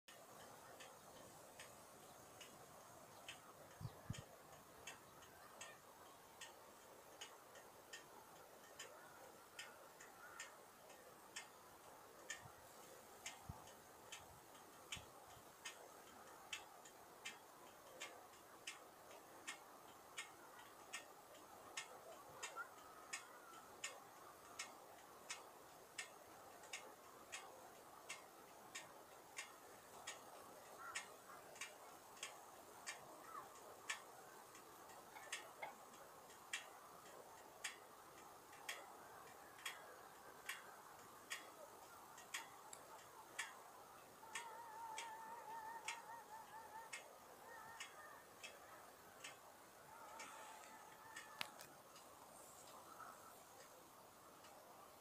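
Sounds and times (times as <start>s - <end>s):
faint steady ticking: 0.1s - 55.0s
low hiss: 0.1s - 55.0s.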